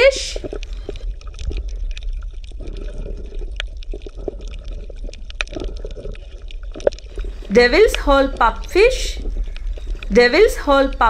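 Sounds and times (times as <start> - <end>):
low hum: 0.0 - 5.3, 6.8 - 11.0
water bubbling and gurgling: 0.0 - 11.0.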